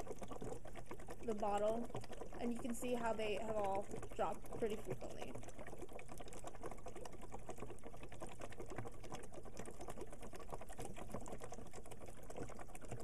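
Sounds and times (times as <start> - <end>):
gas bubbling through water: 0.0 - 13.0.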